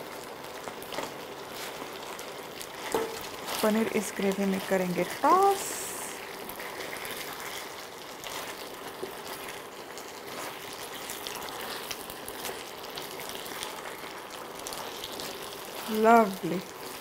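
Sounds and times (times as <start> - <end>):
sauce sizzling in a frying pan: 0.0 - 17.0
spatula stirring in a pan: 0.1 - 17.0.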